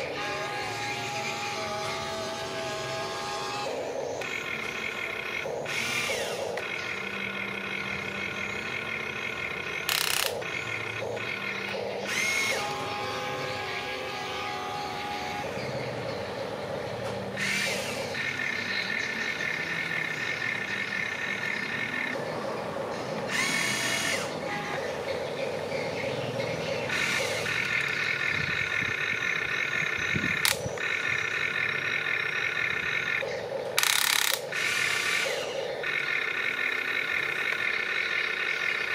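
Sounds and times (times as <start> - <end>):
short loud whirs: 0.0 - 16.4, 17.0 - 19.4, 23.3 - 25.0, 26.9 - 38.9
electric motors whining: 0.0 - 38.9.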